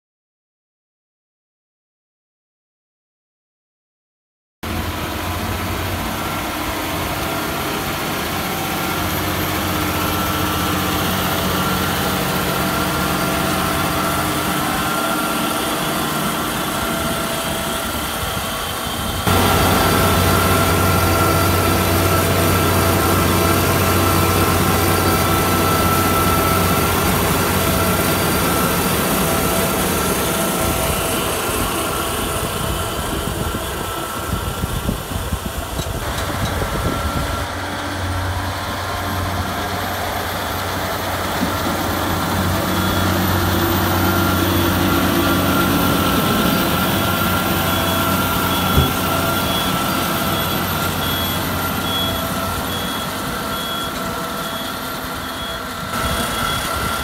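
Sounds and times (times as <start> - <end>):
tractor engine drone: 4.6 - 57.0.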